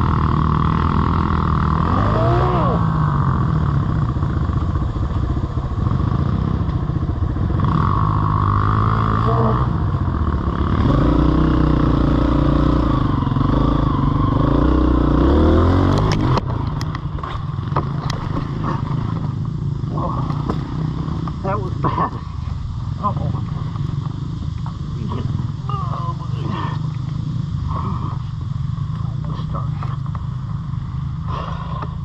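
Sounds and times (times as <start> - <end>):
off-road vehicle engine revving: 0.0 - 30.1.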